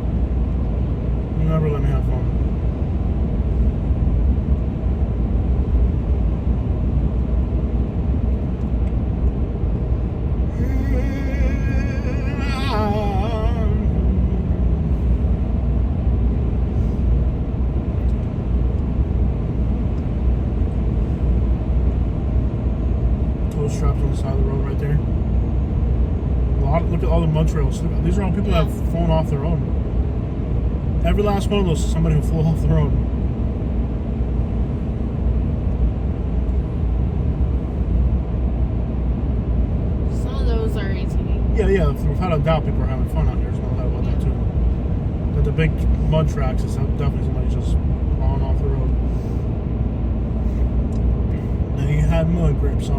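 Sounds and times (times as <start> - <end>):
vehicle road and engine rumble: 0.0 - 52.9.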